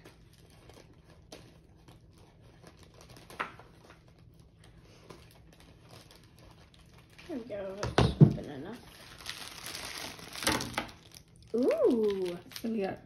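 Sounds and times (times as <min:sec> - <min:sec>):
plastic bag crinkling: 0:00.0 - 0:07.8, 0:08.4 - 0:13.0.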